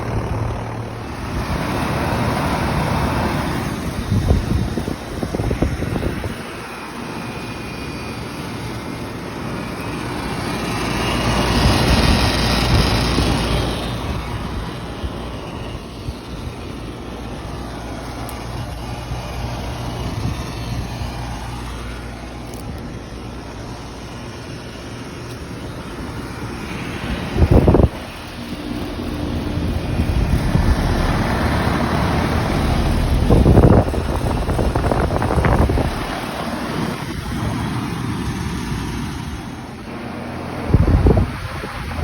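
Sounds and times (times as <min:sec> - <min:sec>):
air conditioner compressor hum: 0:00.0 - 0:42.0
condenser fans rushing: 0:00.0 - 0:42.0.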